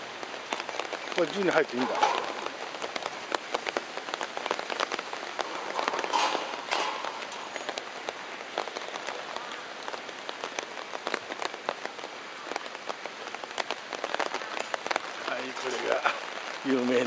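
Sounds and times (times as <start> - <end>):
rain on pavement and umbrellas: 0.0 - 17.0
sharp raindrop taps: 0.0 - 17.0.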